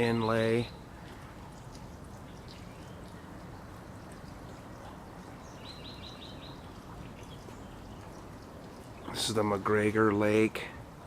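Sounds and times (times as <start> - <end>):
bird chirping: 0.0 - 9.8
steady background noise: 0.0 - 11.0.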